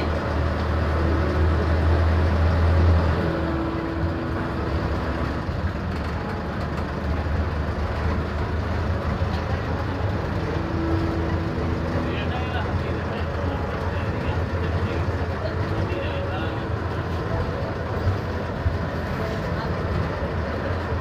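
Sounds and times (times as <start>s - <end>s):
minibus engine and road noise: 0.0s - 21.0s.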